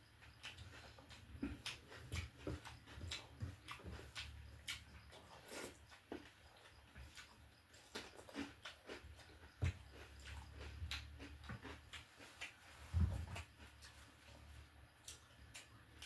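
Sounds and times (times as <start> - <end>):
person chewing: 0.2 - 16.0.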